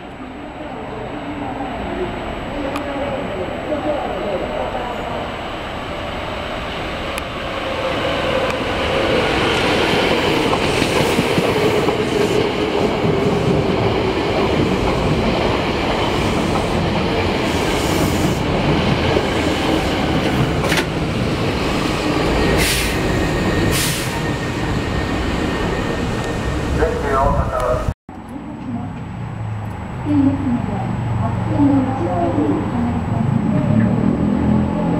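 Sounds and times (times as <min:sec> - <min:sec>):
electric train rumbling past: 0:00.0 - 0:34.9.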